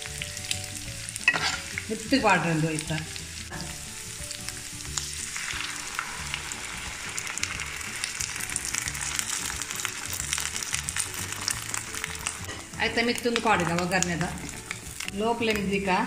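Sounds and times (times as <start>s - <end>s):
batter sizzling in a pan: 0.0s - 16.0s
soft background music: 0.0s - 16.0s.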